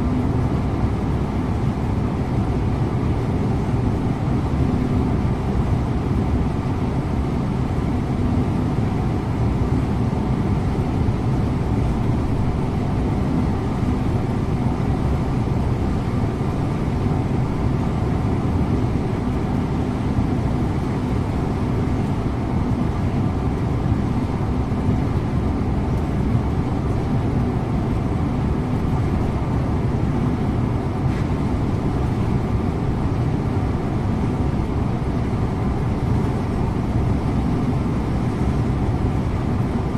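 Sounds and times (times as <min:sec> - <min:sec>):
coach engine drone: 0:00.0 - 0:39.9.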